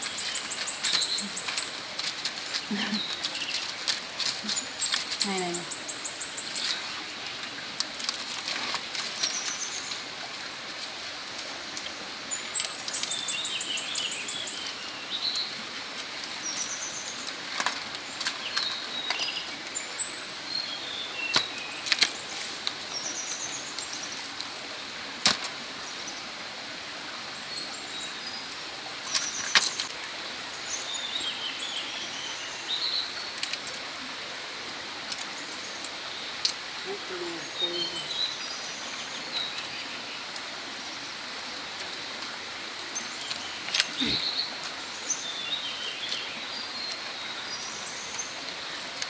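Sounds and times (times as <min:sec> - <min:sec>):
songbirds singing trills: 0:00.0 - 0:07.5, 0:08.5 - 0:10.6, 0:12.0 - 0:24.3, 0:27.3 - 0:33.7, 0:35.2 - 0:41.2, 0:42.9 - 0:49.0
steady outdoor hiss: 0:00.0 - 0:49.0.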